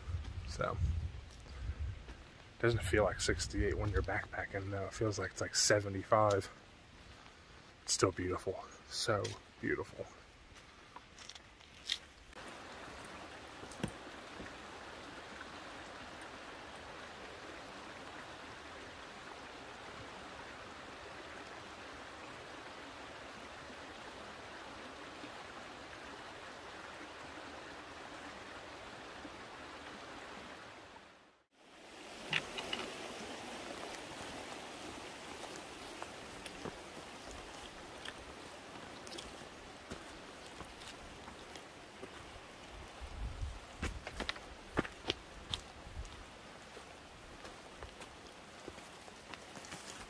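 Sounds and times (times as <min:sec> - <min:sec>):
creek running over stones: 0:00.0 - 0:50.0.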